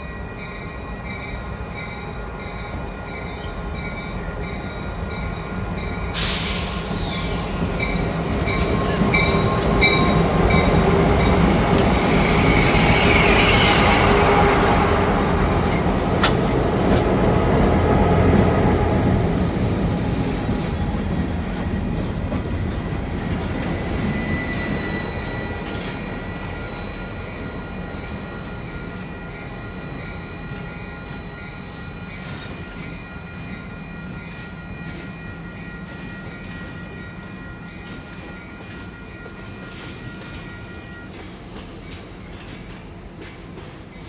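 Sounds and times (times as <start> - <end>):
train cars rolling on rails: 0.0 - 44.0.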